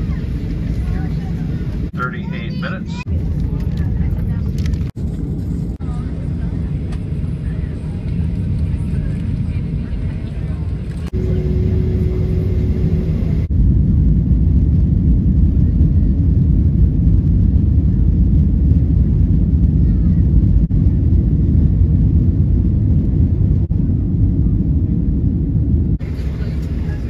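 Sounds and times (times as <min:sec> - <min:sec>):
jet engines roaring in cabin: 0:00.0 - 0:27.0
runway rumble: 0:00.0 - 0:27.0.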